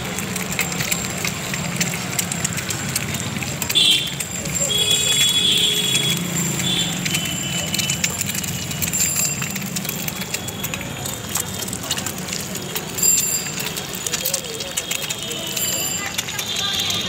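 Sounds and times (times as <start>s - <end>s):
eggs sizzling in hot oil: 0.0s - 17.0s.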